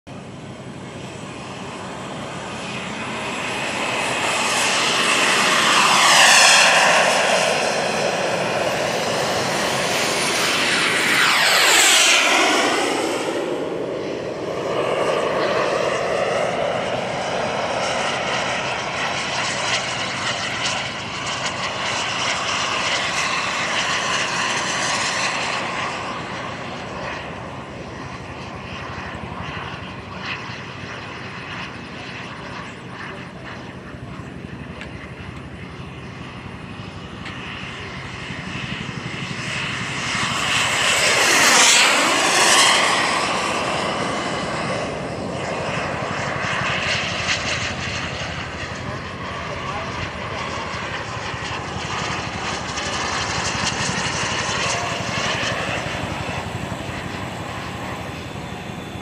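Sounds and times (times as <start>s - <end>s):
model jet turbine whine: 0.1s - 59.0s.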